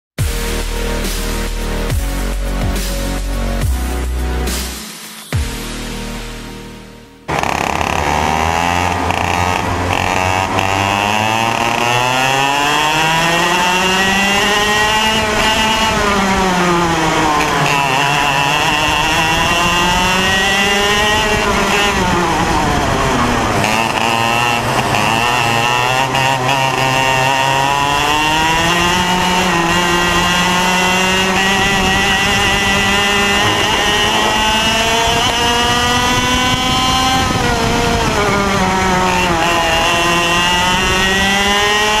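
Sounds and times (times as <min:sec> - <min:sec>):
kart engine revving: 0:07.2 - 0:42.0.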